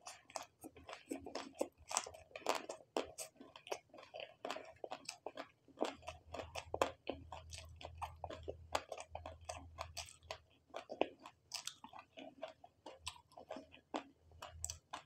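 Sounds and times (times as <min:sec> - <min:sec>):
chewing with wet mouth clicks: 0:00.0 - 0:15.0.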